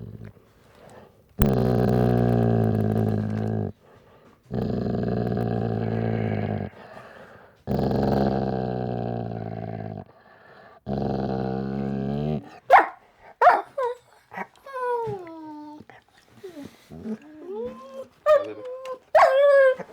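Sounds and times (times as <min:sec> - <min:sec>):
dog growling: 0:00.0 - 0:19.9.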